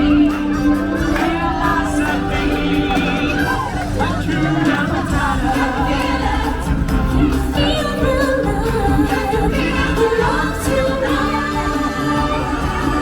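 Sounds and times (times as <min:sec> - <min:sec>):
choir singing: 0:00.0 - 0:13.0
instrumental music: 0:00.0 - 0:13.0.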